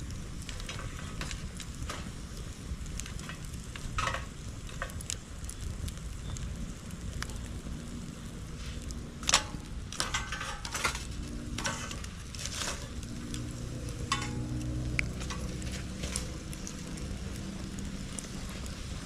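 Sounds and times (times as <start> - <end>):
bonfire crackling: 0.0 - 19.0
low steady rumble: 0.0 - 19.0
sharp fire pops: 0.0 - 19.0.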